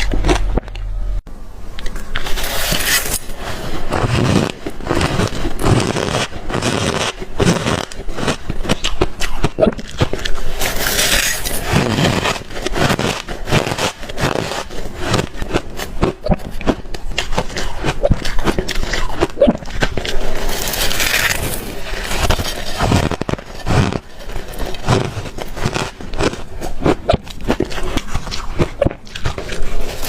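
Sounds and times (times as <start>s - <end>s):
chewing crushed ice: 2.3s - 30.0s.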